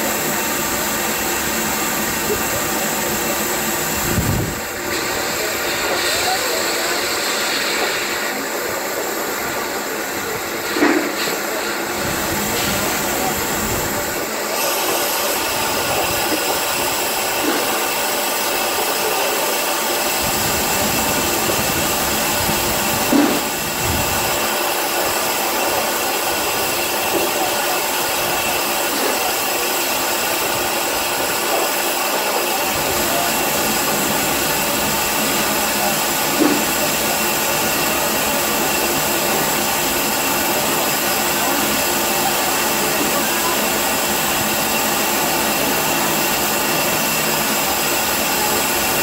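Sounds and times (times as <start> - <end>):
steam hissing from locomotive: 0.0 - 49.0.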